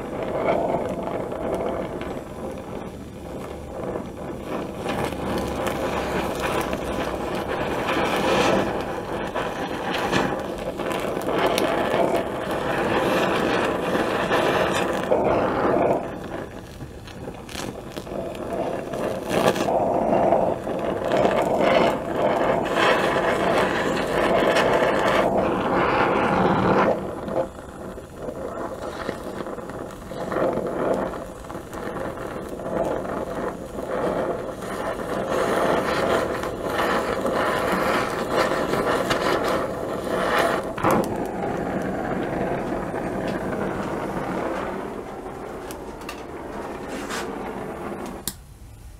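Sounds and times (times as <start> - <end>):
welding torch flame hissing: 0.0 - 48.9.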